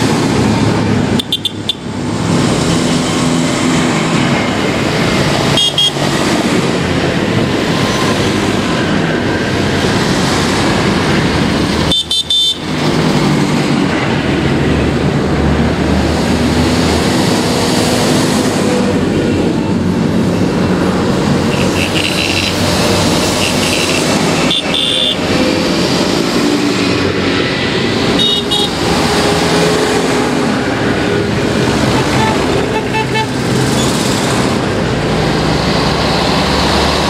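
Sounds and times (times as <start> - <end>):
tractor diesel engines passing: 0.0 - 37.0.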